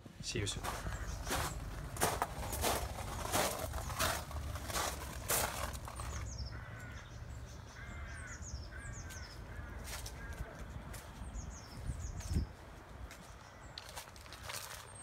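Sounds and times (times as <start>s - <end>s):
footsteps walking: 0.0s - 6.3s, 9.1s - 15.0s
birds calling: 0.2s - 15.0s.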